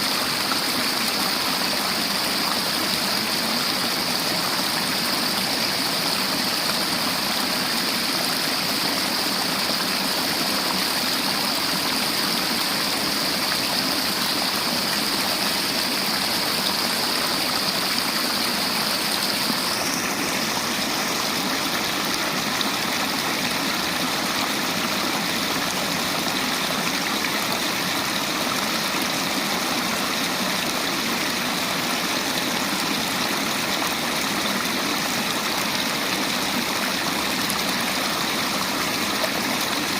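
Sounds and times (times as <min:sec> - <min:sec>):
river water splashing over rocks: 0:00.0 - 0:39.9.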